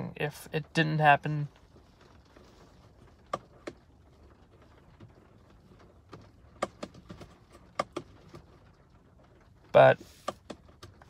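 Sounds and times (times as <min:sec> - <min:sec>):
faint car interior background: 0:00.0 - 0:11.0.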